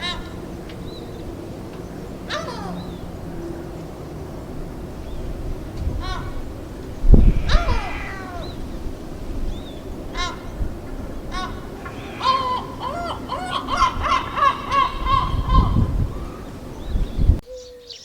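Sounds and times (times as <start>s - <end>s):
low rumble: 0.0s - 17.4s
bird calls: 0.0s - 18.0s.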